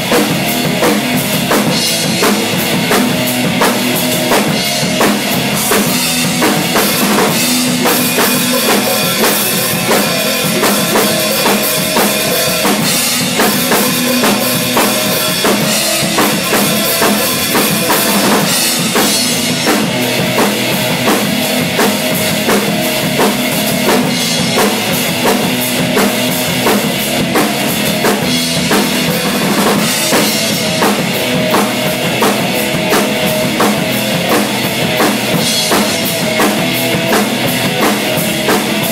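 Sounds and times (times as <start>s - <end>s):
drum kit playing a beat: 0.0s - 38.9s.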